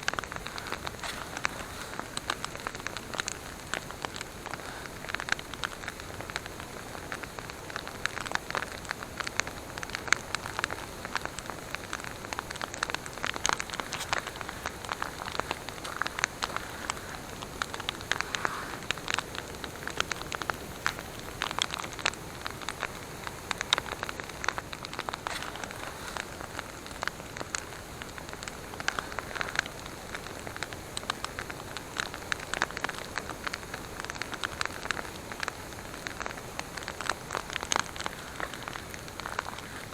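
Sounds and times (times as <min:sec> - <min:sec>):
campfire crackling and popping: 0:00.0 - 0:39.9
soft fire hiss: 0:00.0 - 0:39.9.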